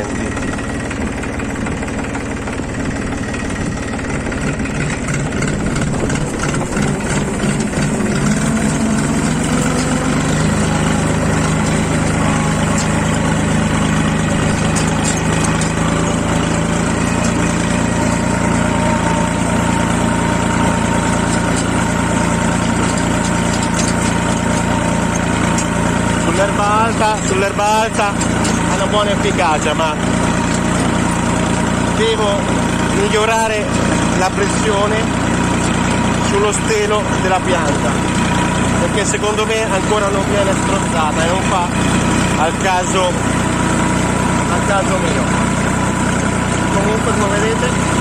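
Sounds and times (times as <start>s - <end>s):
engine running: 0.0s - 48.0s.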